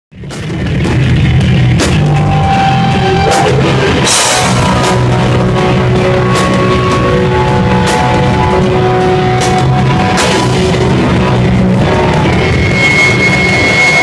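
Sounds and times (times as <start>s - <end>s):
distorted guitars and bass: 0.1s - 14.0s
drum kit: 0.1s - 14.0s
cymbal crashes: 1.9s - 14.0s.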